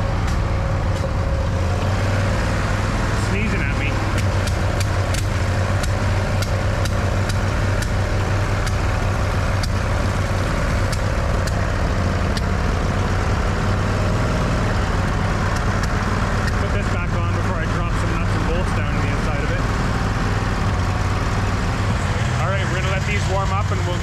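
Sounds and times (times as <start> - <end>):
mower engine running steadily: 0.0 - 24.0.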